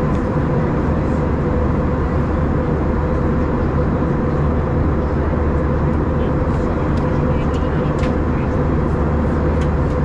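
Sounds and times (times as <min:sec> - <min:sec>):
jet engine and airflow noise: 0:00.0 - 0:10.0
steady hum: 0:00.0 - 0:10.0.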